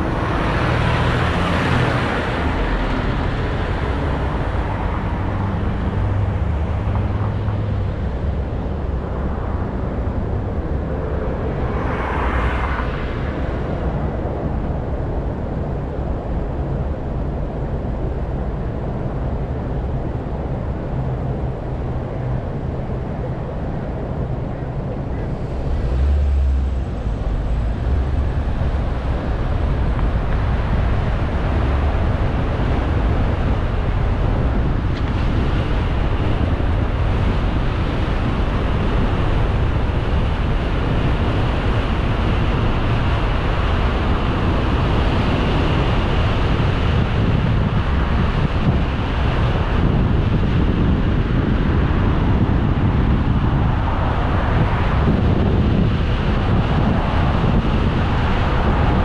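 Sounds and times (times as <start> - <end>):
car engine and road rumble: 0.0 - 59.0
wind noise on microphone: 0.0 - 59.0.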